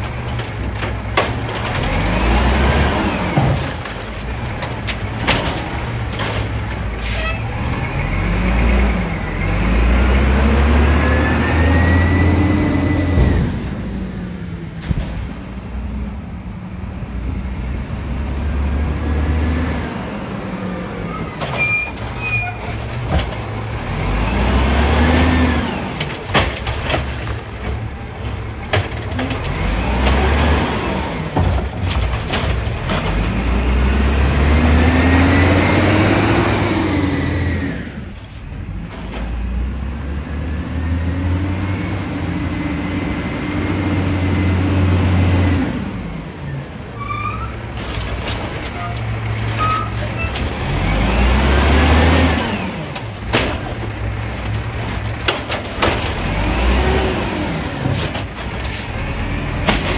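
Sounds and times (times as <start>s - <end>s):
diesel truck engine revving: 0.0s - 15.8s, 17.0s - 59.9s.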